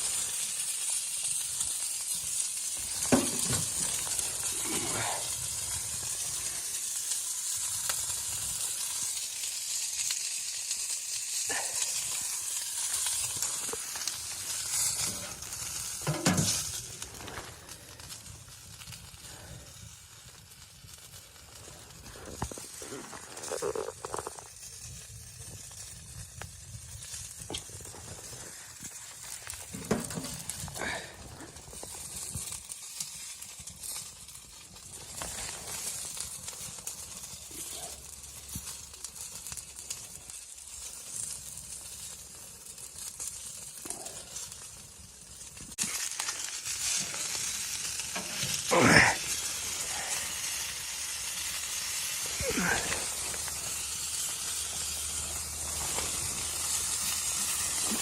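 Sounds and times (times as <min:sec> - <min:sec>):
sizzling hiss: 0:00.0 - 0:58.0.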